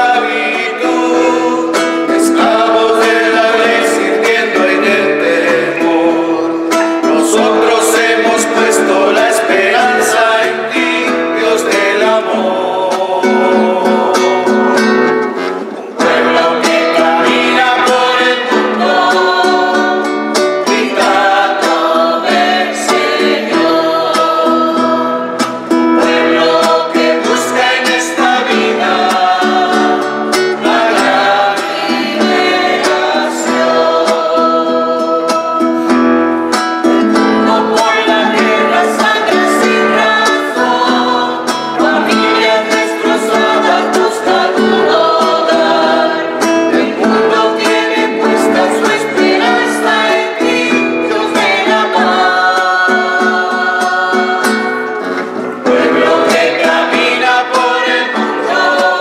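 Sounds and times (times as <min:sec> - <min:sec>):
choir singing: 0:00.0 - 0:59.0
strummed acoustic guitar: 0:00.0 - 0:59.0.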